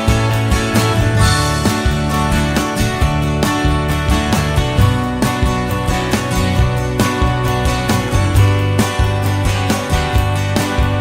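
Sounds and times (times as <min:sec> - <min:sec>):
bass line: 0:00.0 - 0:11.0
strummed guitar: 0:00.0 - 0:11.0.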